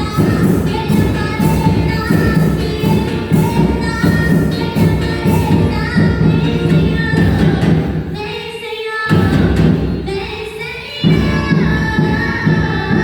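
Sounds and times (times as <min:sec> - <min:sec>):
drums playing a steady beat: 0:00.0 - 0:08.4, 0:09.1 - 0:13.0
singing a hymn: 0:00.0 - 0:13.0.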